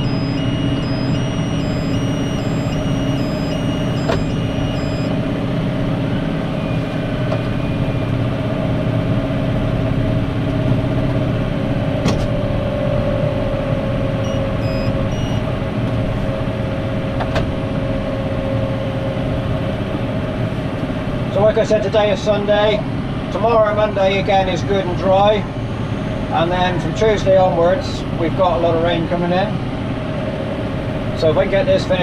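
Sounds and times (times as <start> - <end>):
tractor engine running under load: 0.0 - 32.0.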